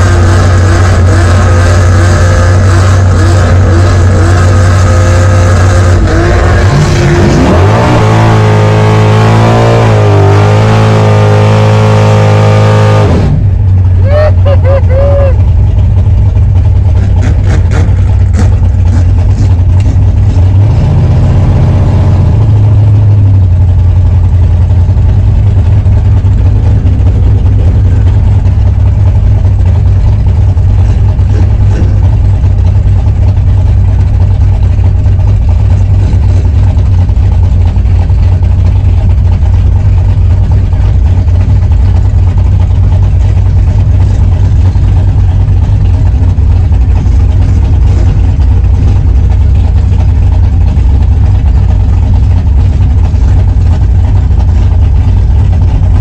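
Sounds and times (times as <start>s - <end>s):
car engine idling loudly: 0.0s - 56.0s.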